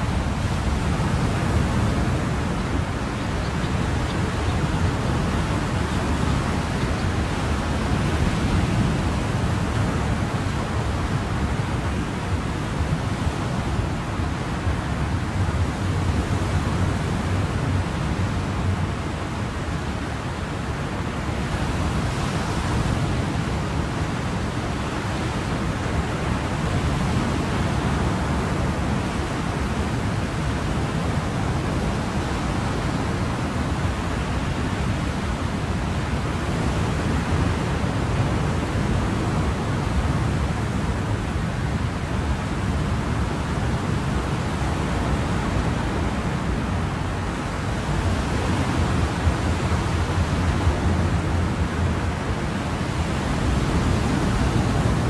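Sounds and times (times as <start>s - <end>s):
ocean waves washing: 0.0s - 55.0s.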